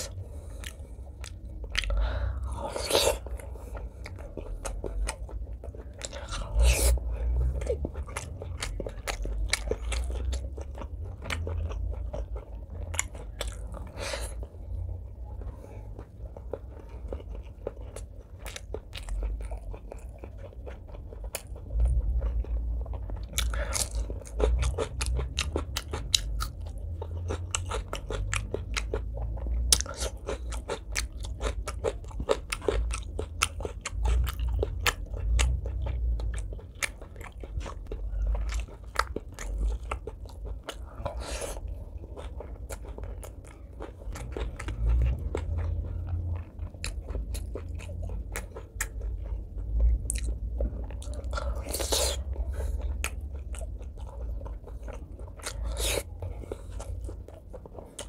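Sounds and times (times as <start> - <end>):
person chewing with wet mouth sounds: 0.0 - 58.0.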